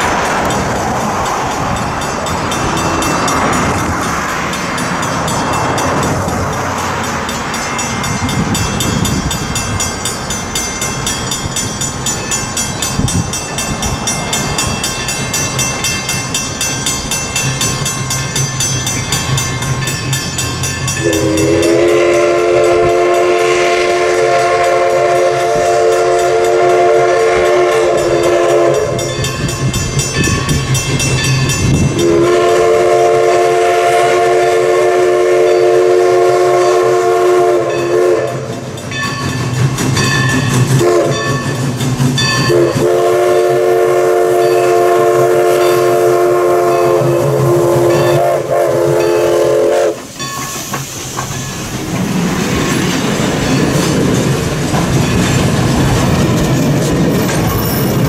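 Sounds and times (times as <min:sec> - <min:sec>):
steam chime whistle: 0:00.0 - 0:51.8, 0:57.3 - 0:58.0
locomotive running rumble: 0:00.0 - 0:58.0.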